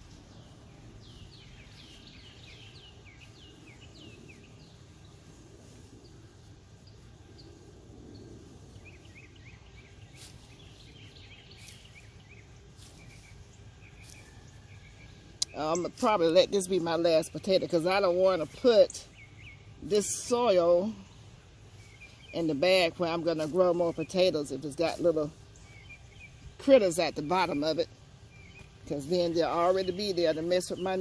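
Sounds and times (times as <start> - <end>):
bird chirping: 0.0 - 31.0
outdoor background noise: 0.0 - 31.0.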